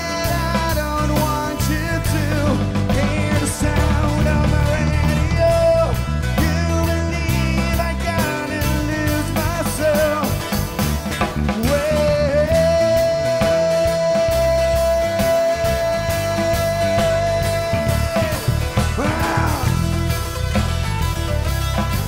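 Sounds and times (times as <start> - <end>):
drums and bass beat: 0.0 - 22.0
wavering lead melody: 0.6 - 22.0.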